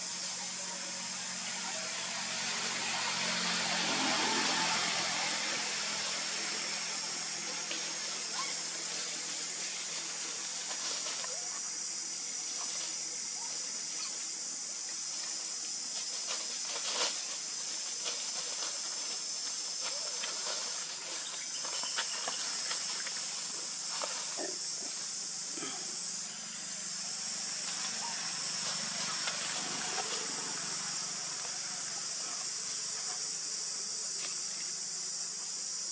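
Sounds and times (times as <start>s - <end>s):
steady high-pitched hiss: 0.0s - 35.9s.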